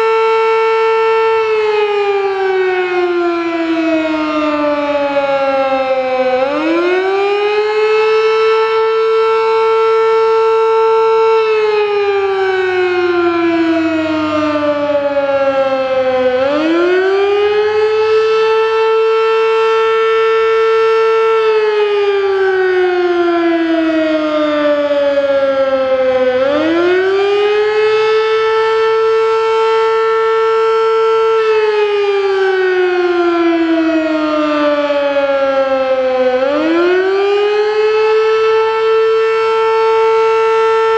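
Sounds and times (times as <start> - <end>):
mechanical warning siren: 0.0 - 40.9.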